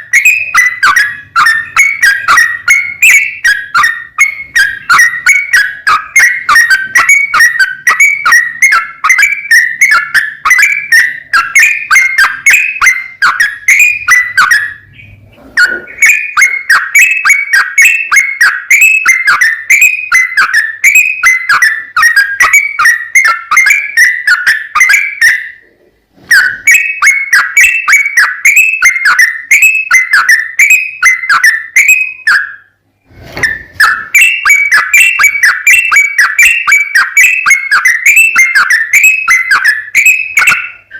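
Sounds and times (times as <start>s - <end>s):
bird singing whistled notes: 0.0s - 25.7s, 26.3s - 32.8s, 33.4s - 40.9s.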